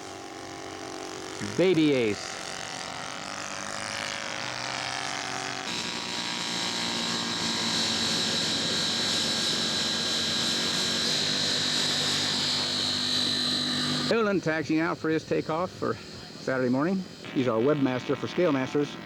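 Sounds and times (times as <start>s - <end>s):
model airplane engine whining: 0.0s - 19.0s.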